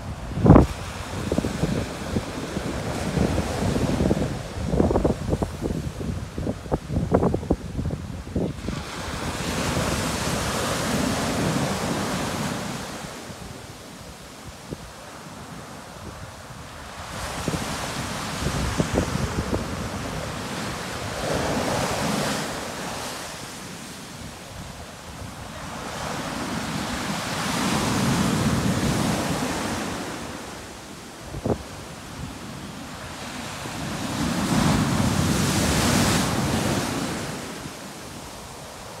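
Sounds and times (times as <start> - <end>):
wind buffeting microphone: 0.0 - 30.4, 31.2 - 39.0
waves breaking on beach: 0.0 - 39.0.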